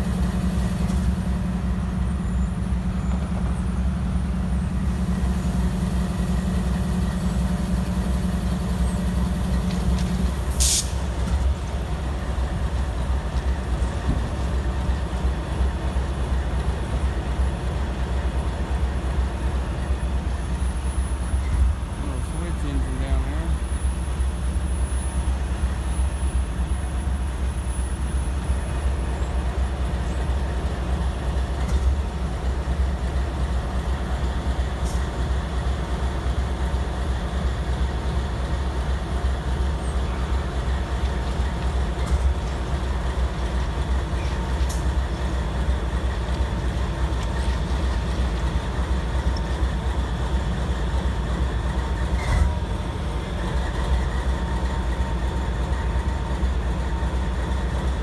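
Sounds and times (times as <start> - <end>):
diesel locomotive and rolling cars: 0.0 - 58.0.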